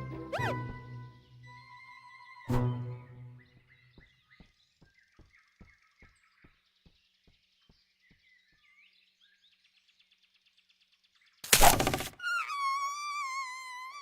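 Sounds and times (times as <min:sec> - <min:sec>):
faint bird chirping: 0:00.3 - 0:14.0.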